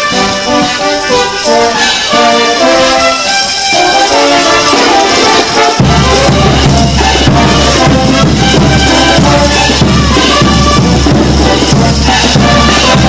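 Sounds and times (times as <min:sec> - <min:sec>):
brass band playing: 0:00.0 - 0:13.0
tambourines jingling: 0:00.0 - 0:13.0.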